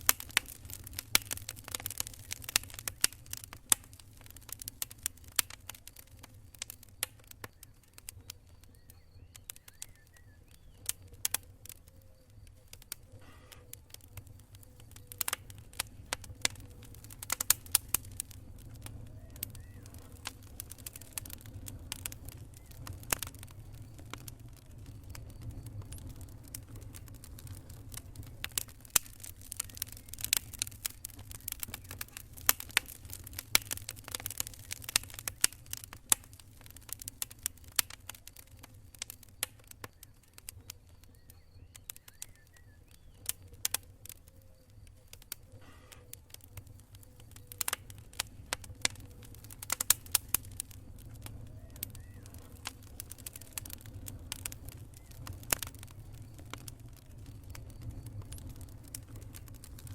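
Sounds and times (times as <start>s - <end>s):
campfire crackling and popping: 0.0s - 59.9s
low fire rumble: 0.0s - 59.9s.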